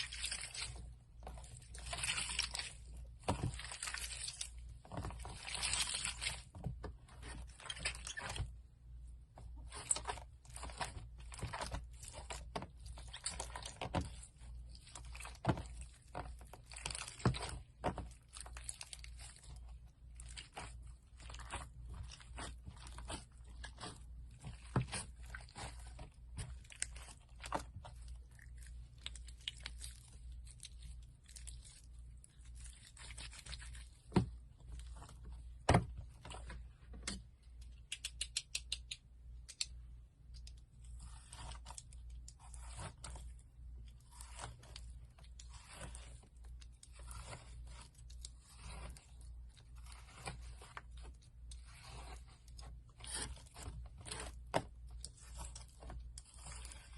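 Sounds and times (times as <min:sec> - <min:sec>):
slime squishing and crackling: 0:00.0 - 0:36.6, 0:40.6 - 0:56.9.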